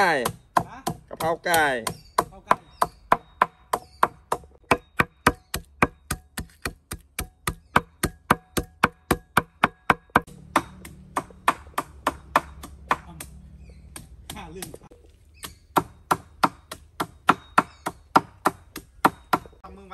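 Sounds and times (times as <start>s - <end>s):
cleaver chopping on wooden block: 0.0s - 19.6s.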